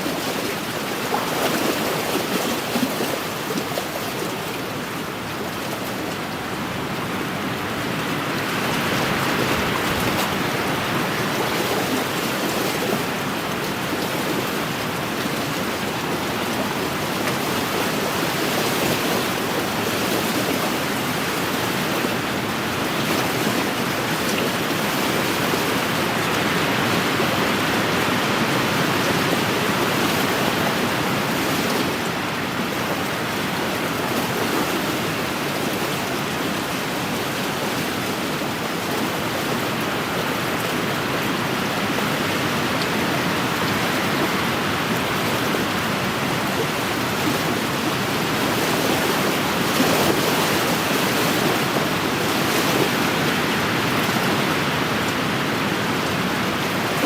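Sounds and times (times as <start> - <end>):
waves washing against shore: 0.0 - 57.0
wind: 0.0 - 57.0.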